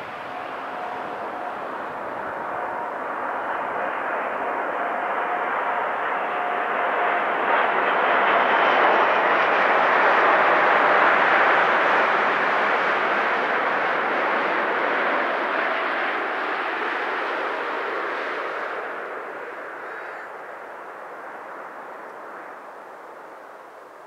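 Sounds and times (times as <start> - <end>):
jet aircraft roar overhead: 0.0 - 24.0.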